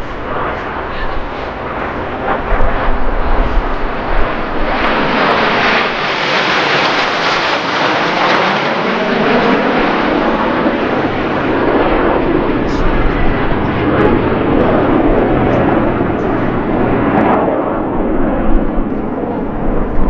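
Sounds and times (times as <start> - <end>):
jet aircraft engine rush: 0.0 - 20.0.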